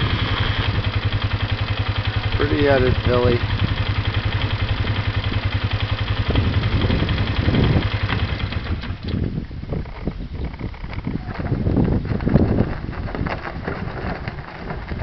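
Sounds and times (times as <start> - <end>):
engine idling with fast pulse: 0.0 - 15.0.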